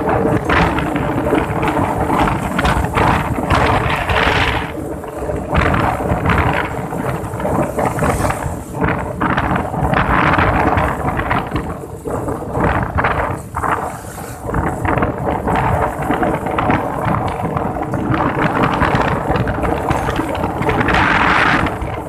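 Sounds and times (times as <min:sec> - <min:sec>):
low rumble: 0:00.0 - 0:22.0
wind buffeting microphone: 0:00.0 - 0:22.0.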